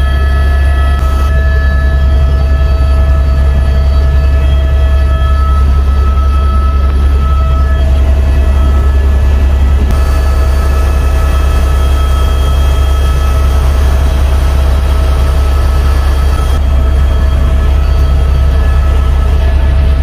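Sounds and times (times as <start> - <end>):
helicopter engine and rotors drone: 0.0 - 20.0
whining tones: 0.0 - 20.0.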